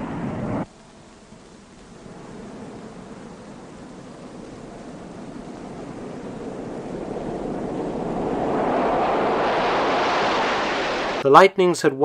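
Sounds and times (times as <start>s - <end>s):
jet engines roaring on takeoff: 0.0s - 11.2s.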